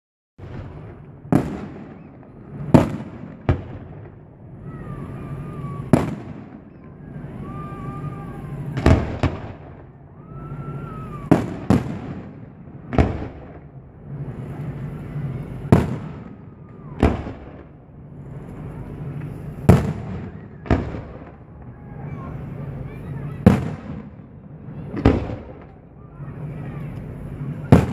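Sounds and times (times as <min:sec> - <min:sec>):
steady background noise: 0:00.4 - 0:27.9.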